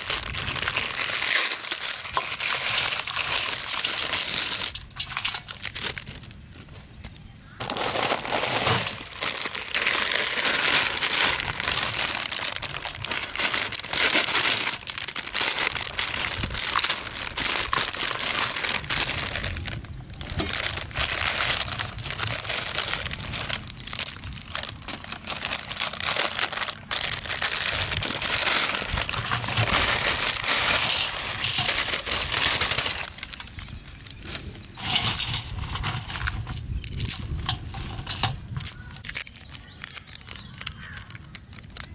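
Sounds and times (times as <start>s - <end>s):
plastic wrappers crinkling: 0.0s - 41.9s.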